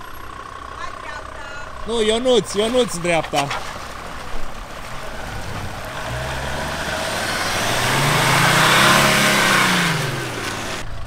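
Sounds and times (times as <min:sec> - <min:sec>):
engine revving under load: 0:01.7 - 0:10.9.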